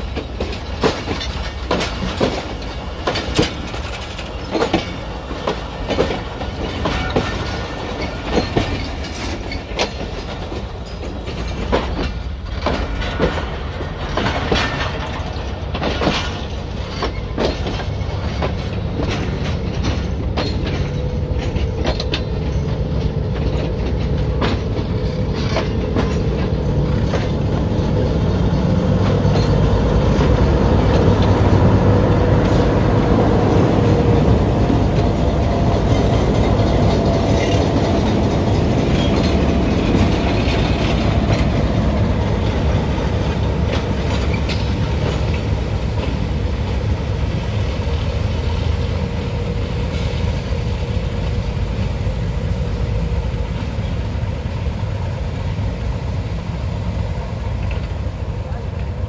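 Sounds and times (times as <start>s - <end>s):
diesel locomotive engine hum: 0.0s - 59.0s
train wheels clacking over rail joints: 0.0s - 59.0s.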